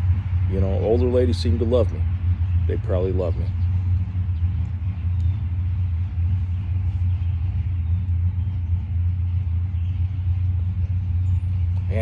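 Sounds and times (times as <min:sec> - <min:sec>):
loud low rumble: 0:00.0 - 0:12.0.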